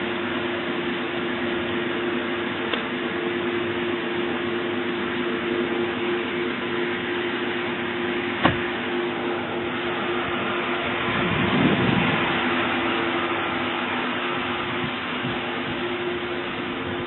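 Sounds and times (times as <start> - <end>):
mechanical hum and hiss: 0.0 - 17.0.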